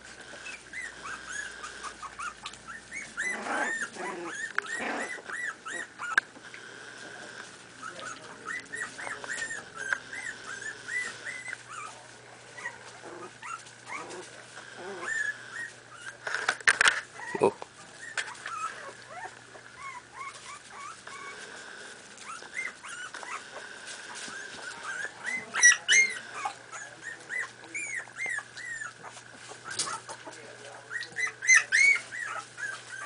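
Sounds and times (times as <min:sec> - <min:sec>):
puppies yipping and squealing: 0:00.0 - 0:33.0.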